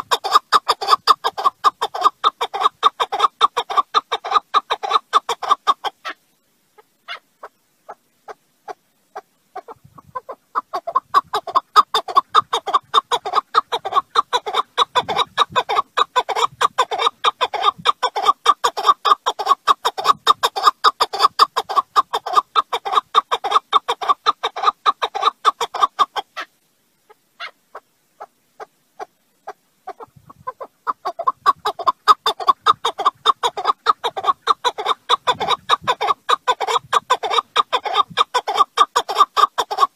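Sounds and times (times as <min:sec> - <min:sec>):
partridge clucking calls: 0:00.0 - 0:06.2, 0:06.8 - 0:39.9.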